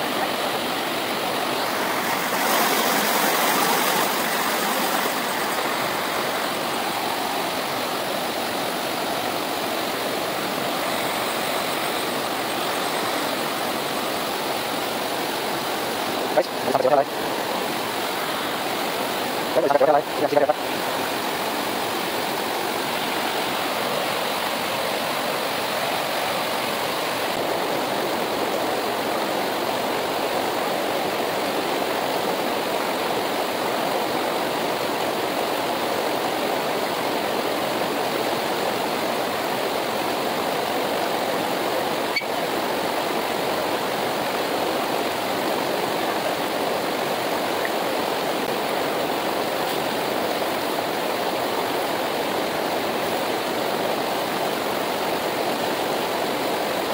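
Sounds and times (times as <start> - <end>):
river rushing: 0.0 - 56.9.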